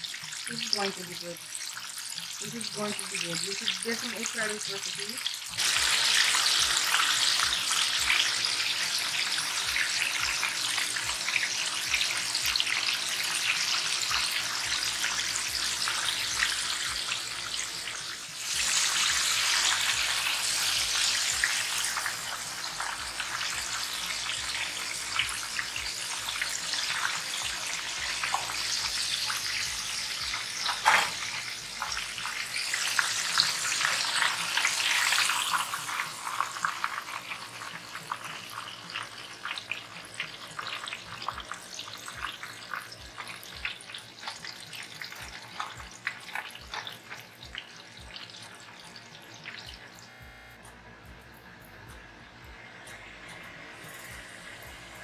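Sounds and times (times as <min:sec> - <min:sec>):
chicken deep-frying in oil: 0:00.0 - 0:50.2.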